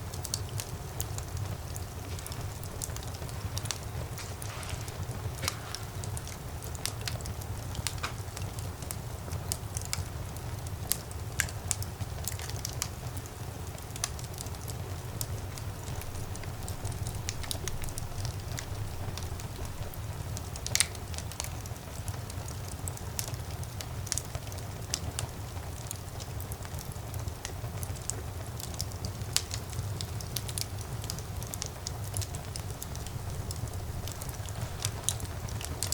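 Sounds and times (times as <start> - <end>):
low rumble of flames: 0.0 - 35.9
wood fire crackling and popping: 0.0 - 35.9.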